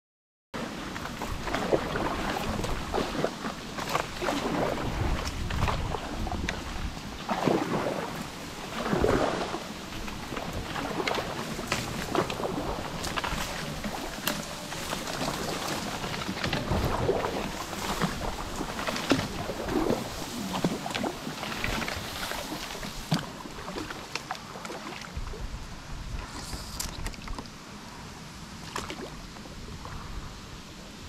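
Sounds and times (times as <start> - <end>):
reeds scraping kayak hull: 0.6 - 30.1
paddle strokes in water: 0.6 - 31.0.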